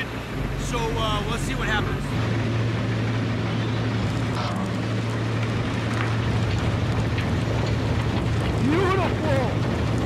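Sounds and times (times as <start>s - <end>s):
diesel machinery humming: 0.0s - 10.0s.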